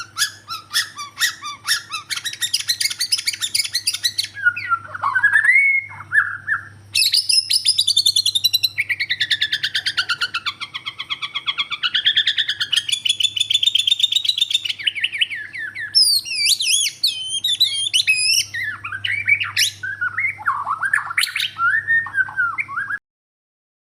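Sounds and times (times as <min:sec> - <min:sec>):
faint steady hum: 0:00.0 - 0:23.0
songbird singing: 0:00.0 - 0:23.0.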